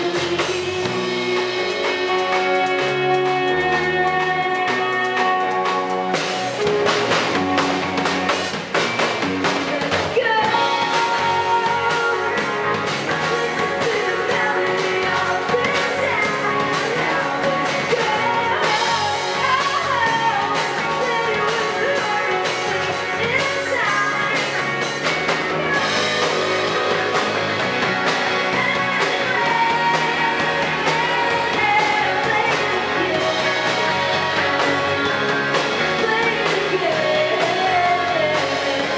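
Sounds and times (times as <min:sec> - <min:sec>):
woman singing lead vocal: 0:00.0 - 0:05.9, 0:09.6 - 0:38.9
live rock band playing: 0:00.0 - 0:38.9.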